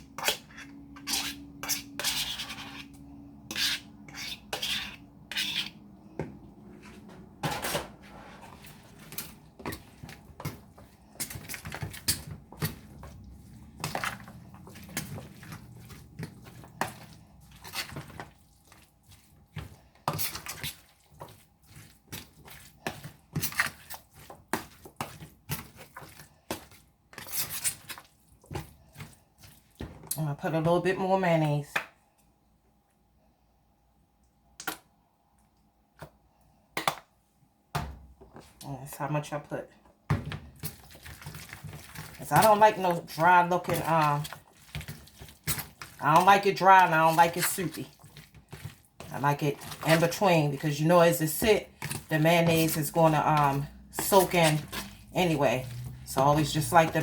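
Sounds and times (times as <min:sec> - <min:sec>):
utensil clinking and scraping bowl: 0:00.0 - 0:30.9, 0:40.5 - 0:57.0.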